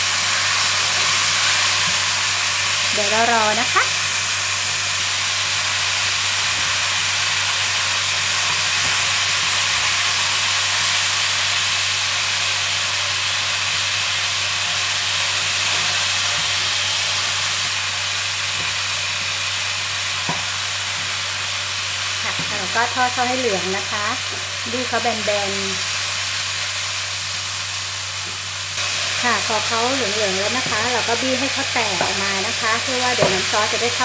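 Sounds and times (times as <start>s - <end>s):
eggplant sizzling in oil: 0.0s - 34.0s.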